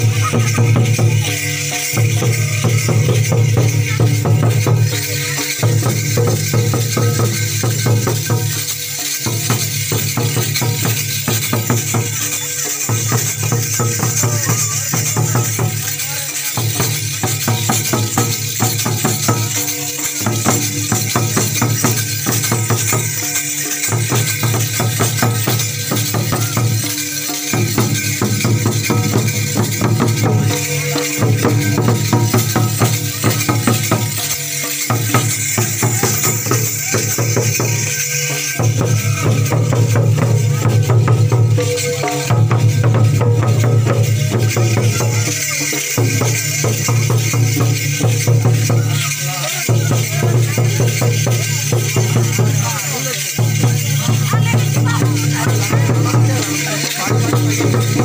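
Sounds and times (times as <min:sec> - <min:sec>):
bright metallic jangle: 0:00.0 - 0:58.0
hand drums beaten fast: 0:00.0 - 0:58.0.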